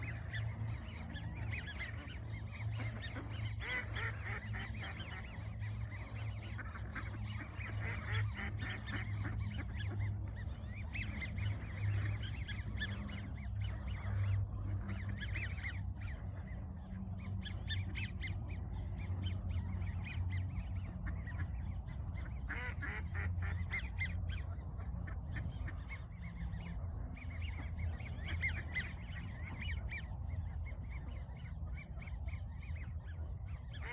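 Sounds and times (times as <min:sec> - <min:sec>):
ducks quacking: 0:00.0 - 0:33.9
low steady hum: 0:00.0 - 0:33.9.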